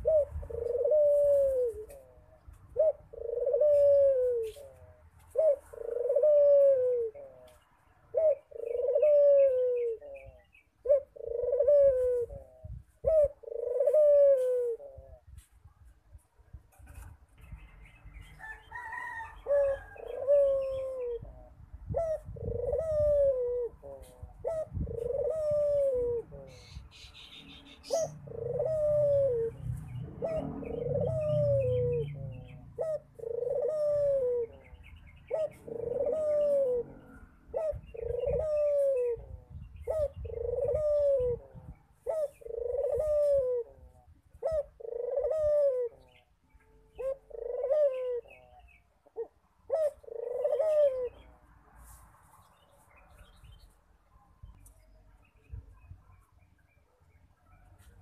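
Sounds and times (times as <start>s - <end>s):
dove cooing: 0.0s - 15.4s, 18.4s - 51.4s.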